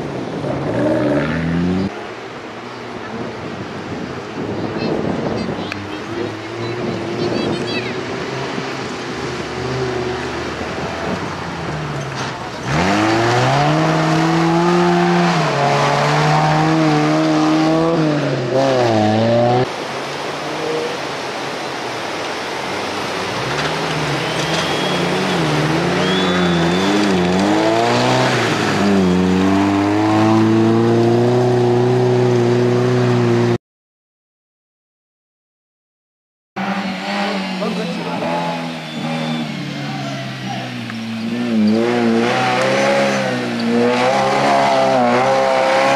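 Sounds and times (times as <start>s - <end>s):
race vehicle engines revving: 0.0s - 33.6s, 36.6s - 45.9s.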